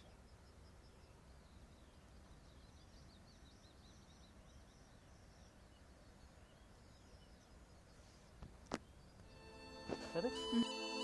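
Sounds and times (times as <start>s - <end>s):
faint birds chirping: 0.0s - 11.0s
outdoor background noise: 0.0s - 11.0s.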